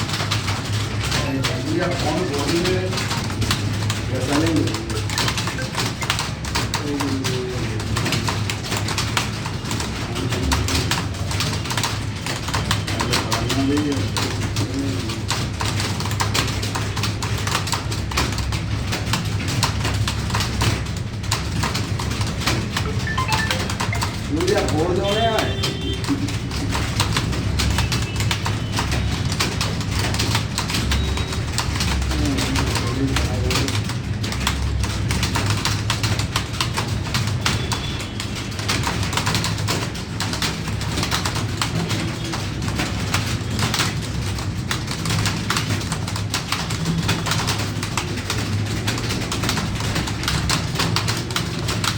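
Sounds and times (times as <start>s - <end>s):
keyboards clattering: 0.0s - 51.9s.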